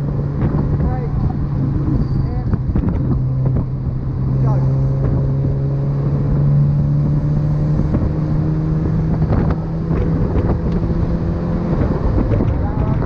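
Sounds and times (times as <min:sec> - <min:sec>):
race car engine droning: 0:00.0 - 0:13.0
wind rushing over microphone: 0:00.0 - 0:13.0.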